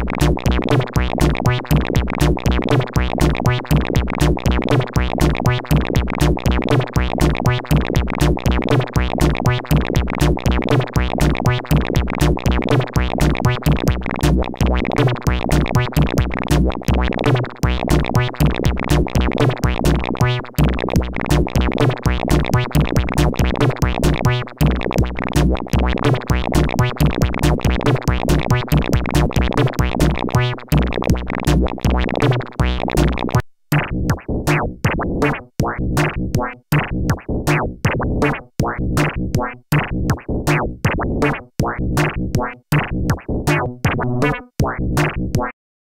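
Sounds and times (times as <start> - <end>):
fast electronic beat: 0.0 - 45.5
synthesizer and bass tones: 0.0 - 45.5.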